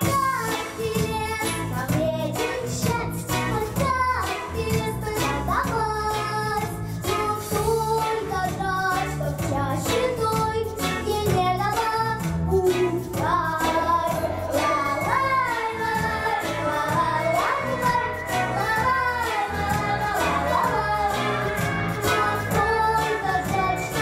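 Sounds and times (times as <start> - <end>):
backing track with steady beat: 0.0 - 24.0
girl singing into microphone: 0.0 - 24.0.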